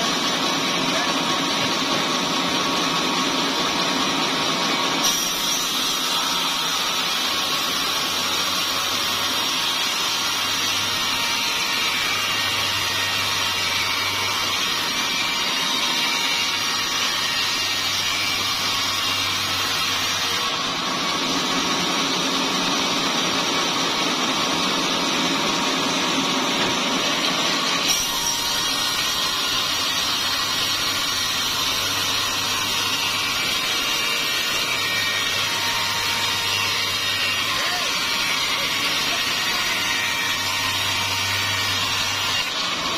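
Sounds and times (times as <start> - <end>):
saw cutting through a log: 0.0 - 42.9.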